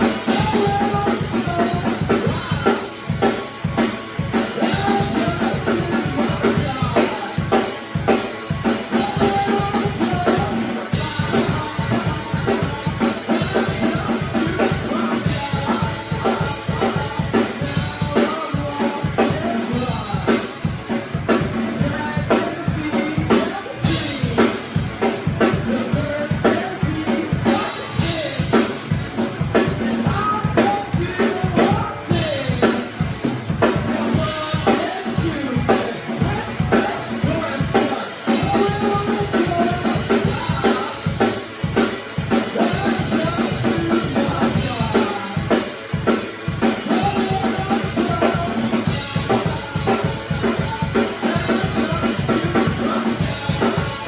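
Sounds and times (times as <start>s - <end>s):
drum kit beat: 0.0s - 54.0s
rock band playing live: 0.0s - 54.0s.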